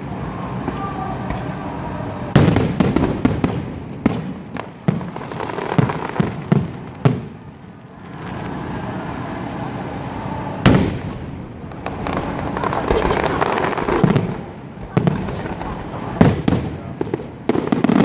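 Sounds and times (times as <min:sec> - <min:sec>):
fireworks bangs: 0:00.0 - 0:18.0
fireworks crackling hiss: 0:00.0 - 0:18.0.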